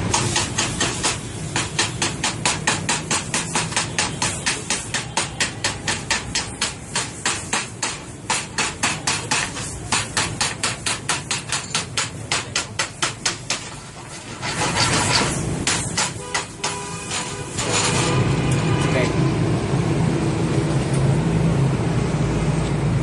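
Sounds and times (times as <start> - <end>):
rapid hammer blows: 0.0 - 18.5.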